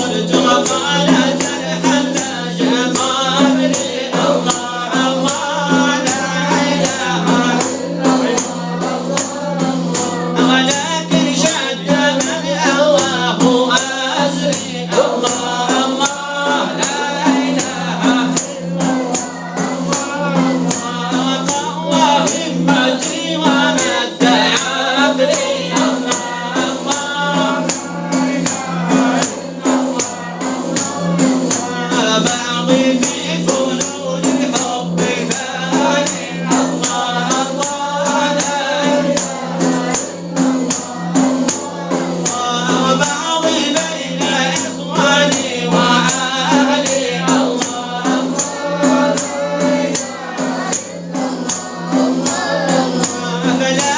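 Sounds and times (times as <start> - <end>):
frame drums beating: 0.0 - 53.9
voices chanting in chorus: 0.0 - 53.9.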